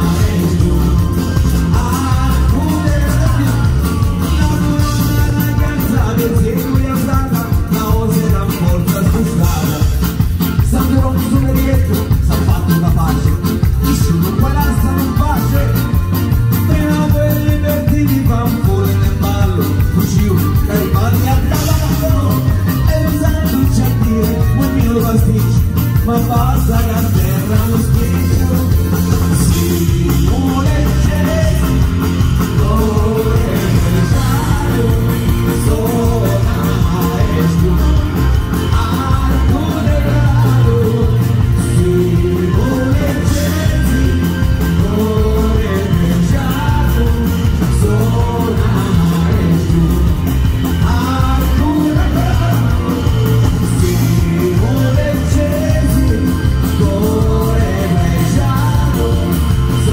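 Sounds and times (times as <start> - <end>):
live band playing fast folk dance: 0.0 - 59.9.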